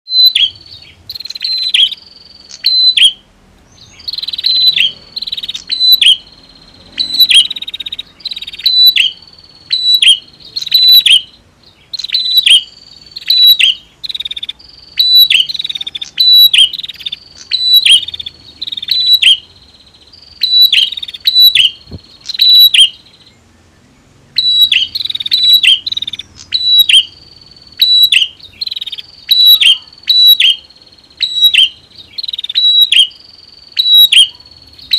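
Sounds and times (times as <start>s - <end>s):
bird sharp high chirping: 0.1s - 23.4s, 24.3s - 34.9s.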